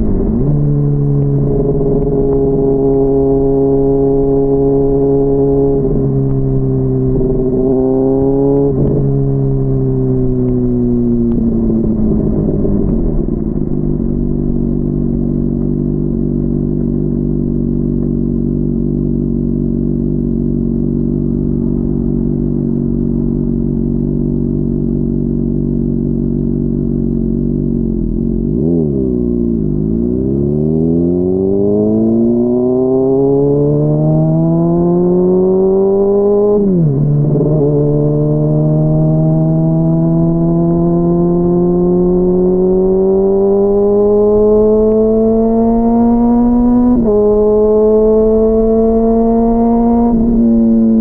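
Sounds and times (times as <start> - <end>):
muffled motorcycle engine: 0.0 - 51.0.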